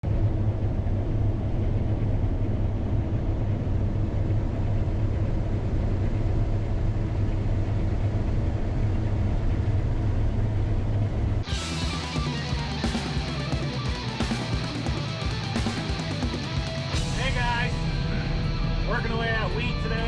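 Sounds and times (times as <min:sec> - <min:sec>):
heavy machinery engine droning: 0:00.0 - 0:20.0.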